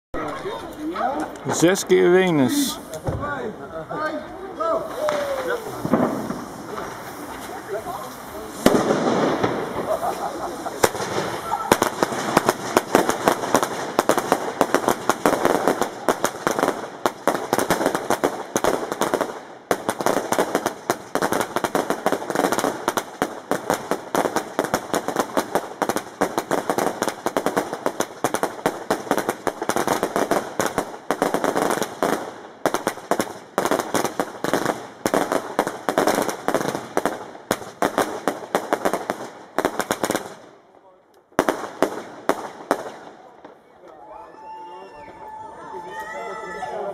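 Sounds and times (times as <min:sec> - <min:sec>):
fireworks barrage: 0:00.2 - 0:43.7.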